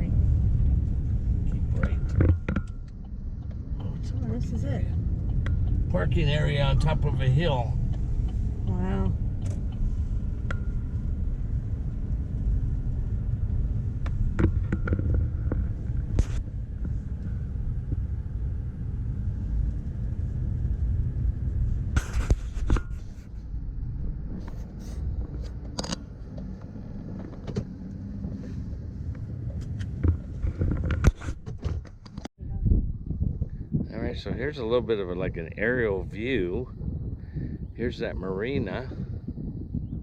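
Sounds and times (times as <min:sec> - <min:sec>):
car engine rumble from cabin: 0:00.0 - 0:40.0.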